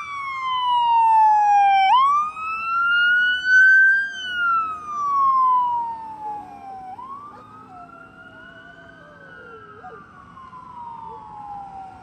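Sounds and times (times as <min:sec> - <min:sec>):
electronic siren wailing: 0:00.0 - 0:12.0
second fainter siren wailing: 0:00.0 - 0:12.0.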